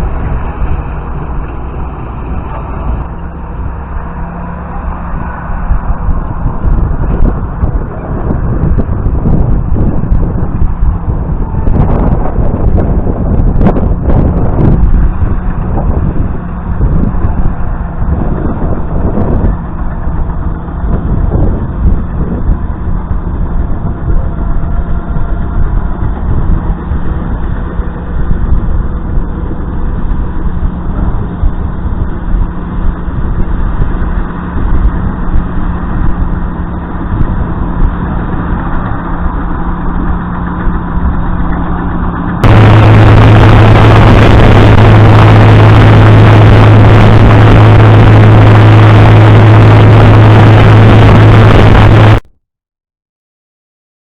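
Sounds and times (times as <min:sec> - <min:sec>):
engine running steadily: 0:00.0 - 0:52.2.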